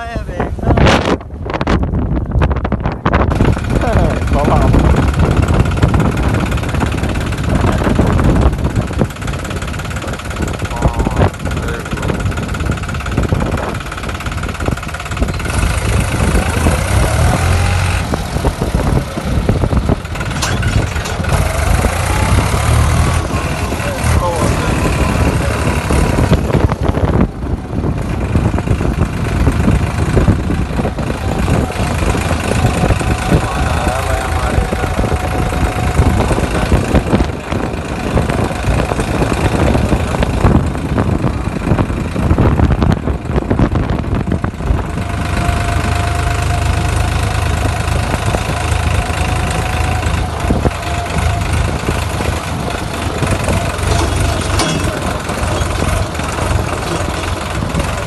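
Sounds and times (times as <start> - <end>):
tractor engine idling: 0.0 - 58.0
wind buffeting microphone: 0.0 - 58.0.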